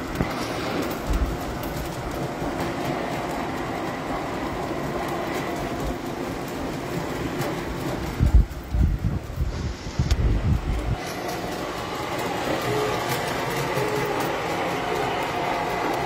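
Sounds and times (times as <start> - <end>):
clicking over rails: 0.0 - 16.0
model train whirring on track: 0.0 - 16.0.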